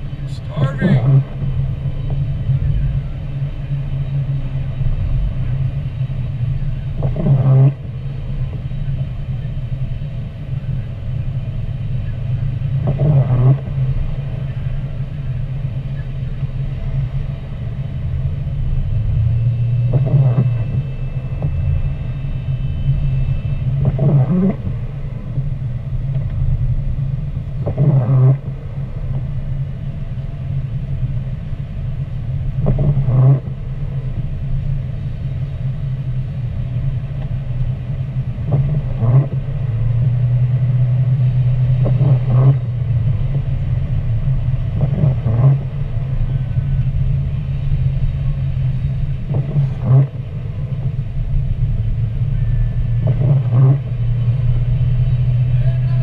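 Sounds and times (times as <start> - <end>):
car engine and tyres droning: 0.0 - 56.0
windshield wipers sweeping: 0.0 - 56.0.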